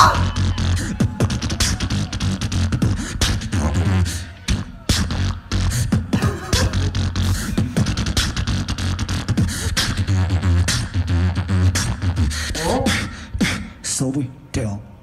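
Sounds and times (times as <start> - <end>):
person beatboxing: 0.0 - 13.9.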